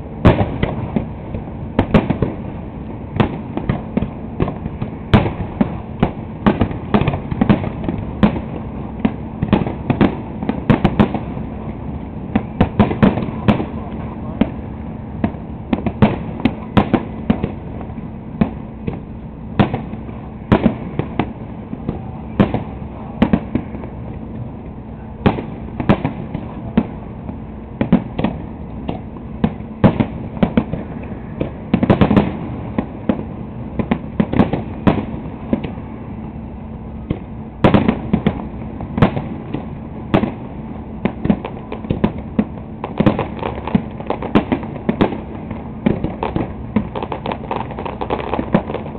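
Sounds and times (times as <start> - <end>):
fireworks booming and cracking: 0.0 - 48.9.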